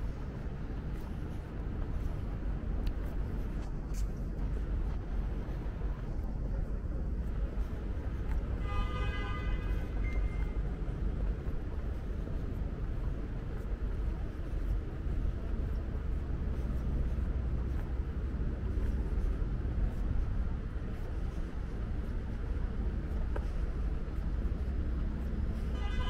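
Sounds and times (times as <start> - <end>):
city ambience rumble: 0.0 - 26.0.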